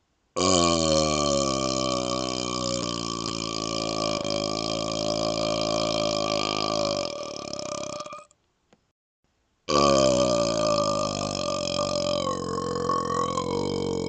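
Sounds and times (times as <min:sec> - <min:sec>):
man burping: 0:00.4 - 0:08.3, 0:09.7 - 0:14.0.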